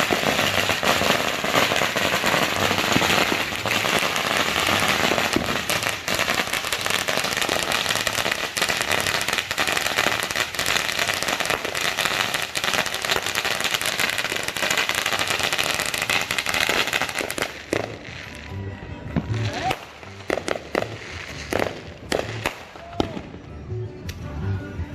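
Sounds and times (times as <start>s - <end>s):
fireworks crackling: 0.0s - 23.5s.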